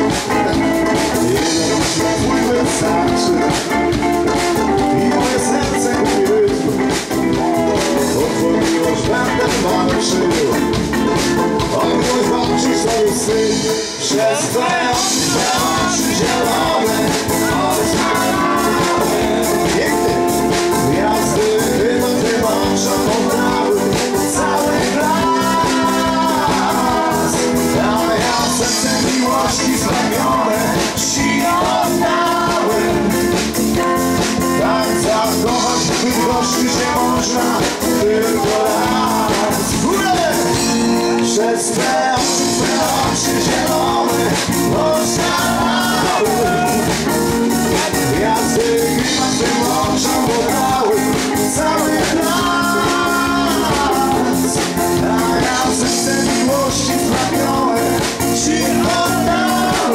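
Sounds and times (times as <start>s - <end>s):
drum-kit beat: 0.0s - 59.9s
electric guitar: 0.0s - 59.9s
keyboards: 0.0s - 59.9s
lead singer's voice: 0.0s - 59.9s
live pop-rock band: 0.0s - 59.9s.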